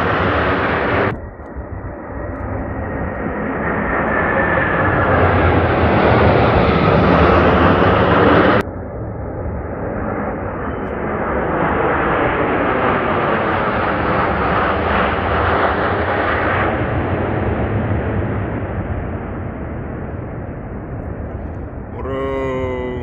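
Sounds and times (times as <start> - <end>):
jet aircraft flying overhead: 0.0 - 21.9.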